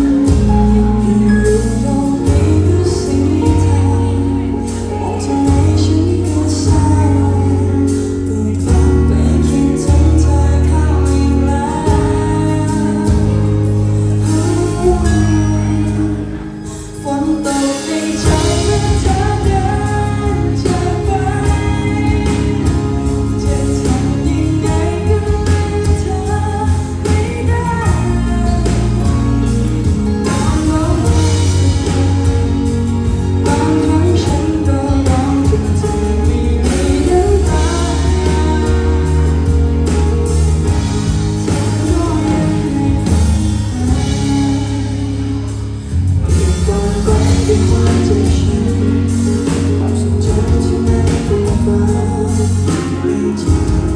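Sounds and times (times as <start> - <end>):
band with electric guitar: 0.0 - 53.9
woman singing a ballad: 0.0 - 53.9.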